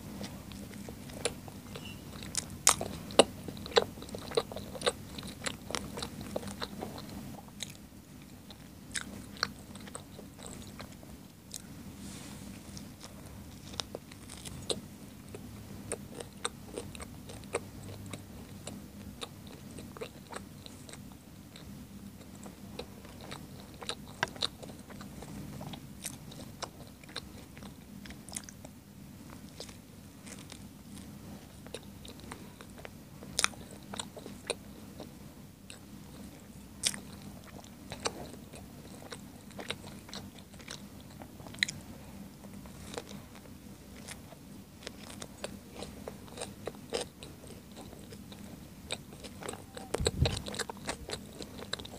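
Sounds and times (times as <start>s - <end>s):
chewing with wet clicks: 0.1s - 11.7s, 12.8s - 51.9s.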